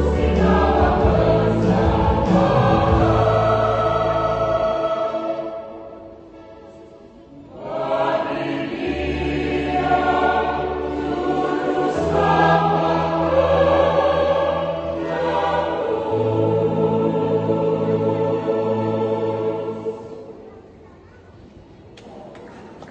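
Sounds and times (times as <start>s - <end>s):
church choir singing: 0.0s - 20.5s.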